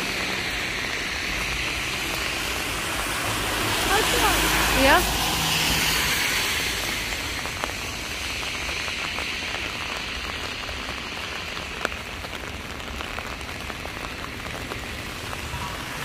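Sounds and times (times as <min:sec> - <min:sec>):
heavy rain on a flooded street: 0:00.0 - 0:16.0
tyres hissing on wet road: 0:00.0 - 0:16.0.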